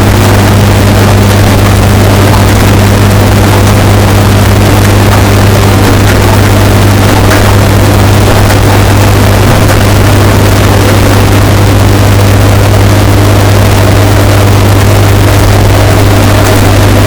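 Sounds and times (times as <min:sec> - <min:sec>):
washing machine droning: 0:00.0 - 0:17.0.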